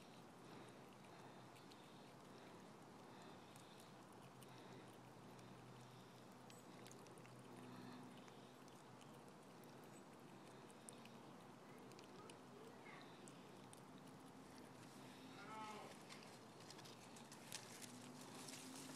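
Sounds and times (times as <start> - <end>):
faint background hum: 0.0 - 18.9.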